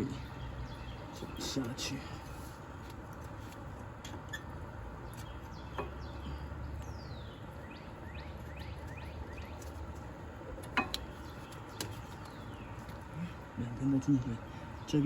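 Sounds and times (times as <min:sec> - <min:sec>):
bird chirping: 0:00.0 - 0:02.9, 0:04.1 - 0:15.0.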